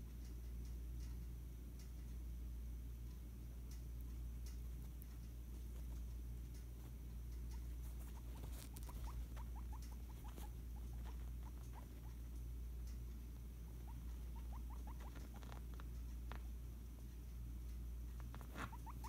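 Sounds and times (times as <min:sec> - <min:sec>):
steady low hum: 0:00.0 - 0:19.0
guinea pig squeaking: 0:03.6 - 0:19.0.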